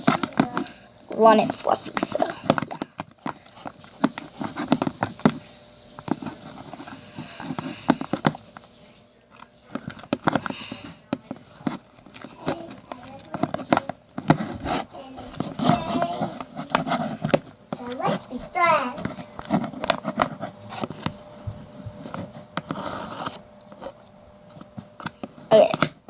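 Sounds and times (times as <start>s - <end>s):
stick stirring sticky slime: 0.0s - 26.0s.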